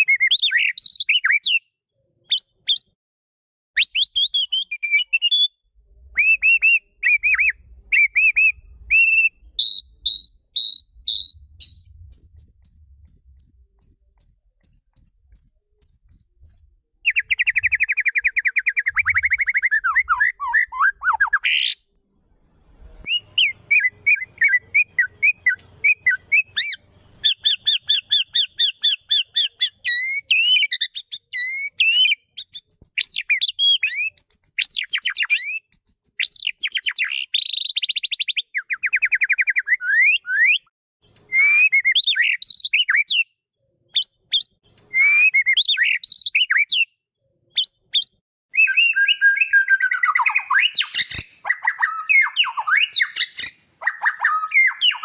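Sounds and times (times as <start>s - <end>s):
bird singing varied song: 0.0s - 3.0s, 3.8s - 55.0s.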